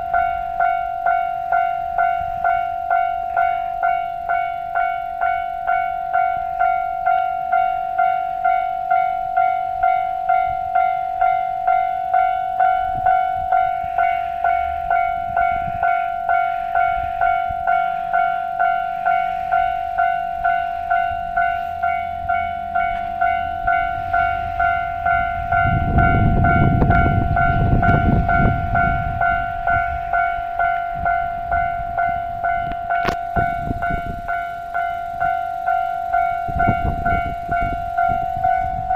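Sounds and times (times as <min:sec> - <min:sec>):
level crossing bell ringing: 0:00.0 - 0:38.9
train rumbling past: 0:00.0 - 0:38.9.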